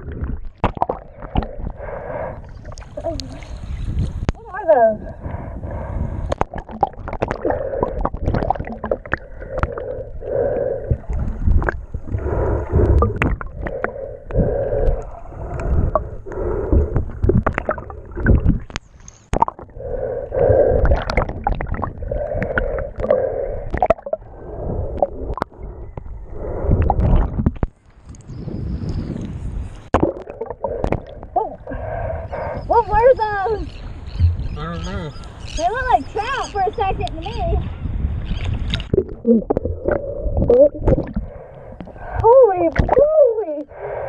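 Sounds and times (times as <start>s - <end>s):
muffled water sloshing and bubbling: 0.0s - 44.0s.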